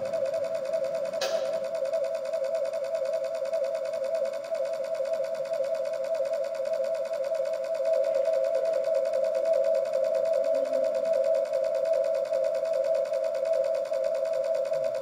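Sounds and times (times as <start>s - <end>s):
electronic buzzing drone: 0.0s - 15.0s.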